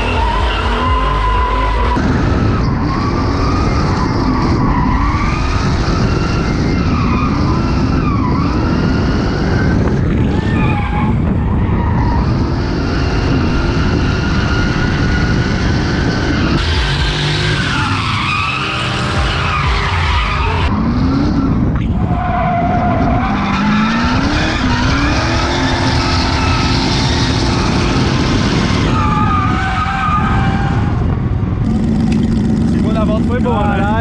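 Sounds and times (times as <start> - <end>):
car engine revving: 0.0 - 34.0
tyres skidding: 0.0 - 34.0.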